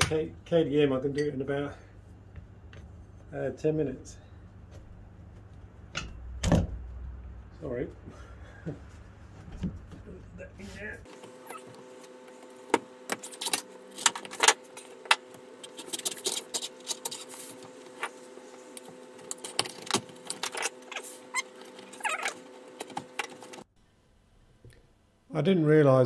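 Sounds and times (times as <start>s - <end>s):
steady hum: 0.0s - 25.7s.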